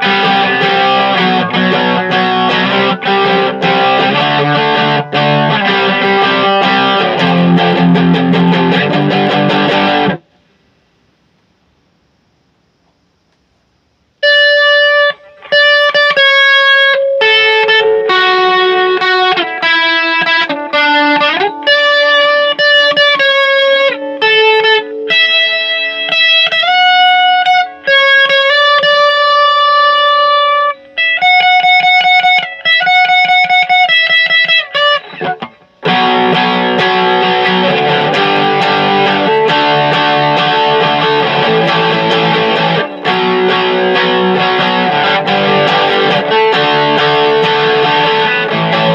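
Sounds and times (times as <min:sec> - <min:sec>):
electric guitar playing: 0:00.0 - 0:10.3, 0:14.2 - 0:48.9.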